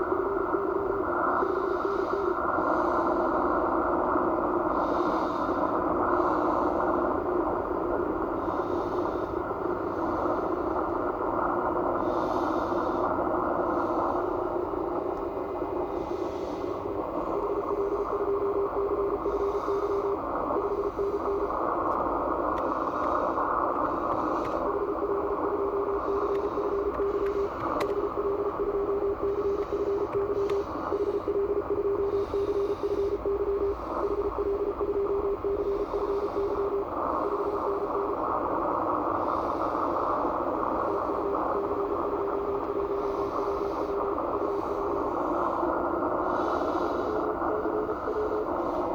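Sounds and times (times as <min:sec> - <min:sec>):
radio band noise hiss: 0:00.0 - 0:48.9.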